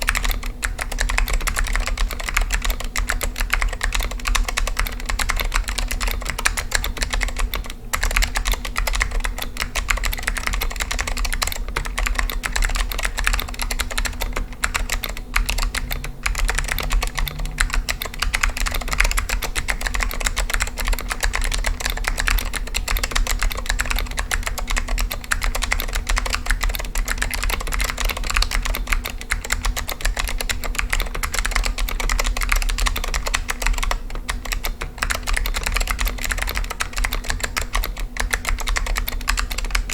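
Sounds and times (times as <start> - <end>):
fast keyboard typing clicks: 0.0 - 39.9
steady low hum: 0.0 - 39.9.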